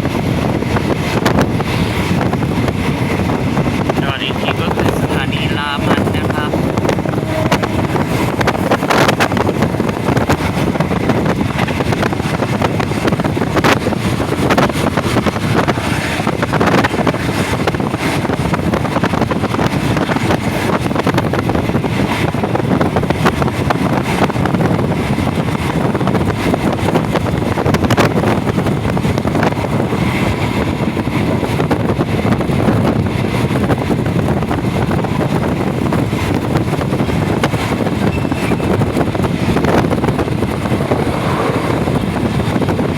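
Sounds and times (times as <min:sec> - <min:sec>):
train rumbling at speed: 0:00.0 - 0:42.9
train wheels clicking: 0:00.0 - 0:42.9
wind buffeting microphone: 0:00.0 - 0:42.9.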